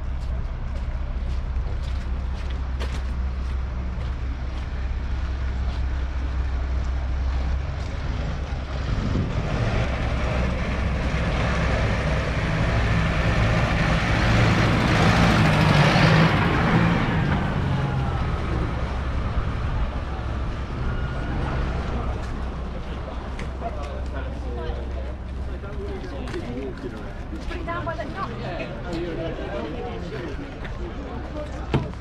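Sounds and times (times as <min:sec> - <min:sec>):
tractor diesel engines running: 0:00.0 - 0:32.0.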